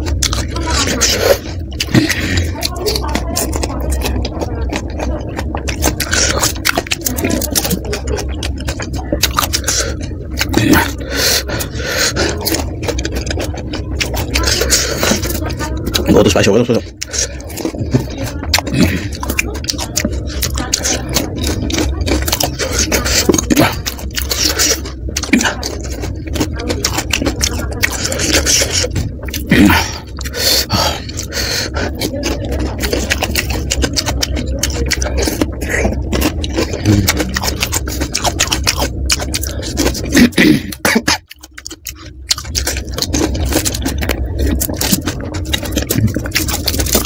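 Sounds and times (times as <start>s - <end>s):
crunching and wet chewing: 0.0s - 47.0s
steady low hum: 0.0s - 47.0s.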